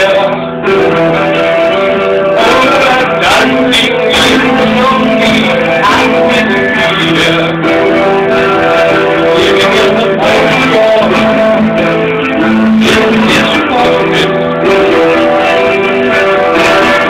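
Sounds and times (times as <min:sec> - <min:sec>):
electric guitar strumming chords: 0:00.0 - 0:17.0.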